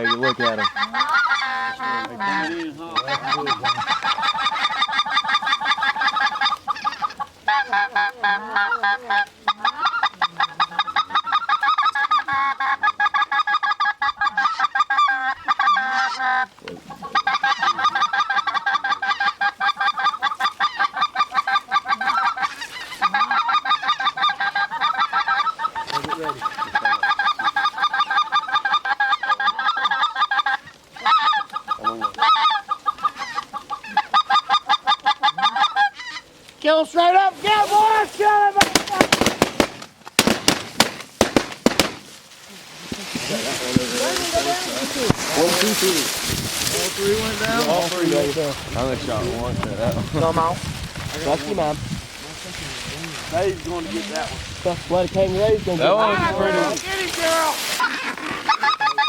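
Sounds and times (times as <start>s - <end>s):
geese honking and clucking: 0.0s - 59.0s.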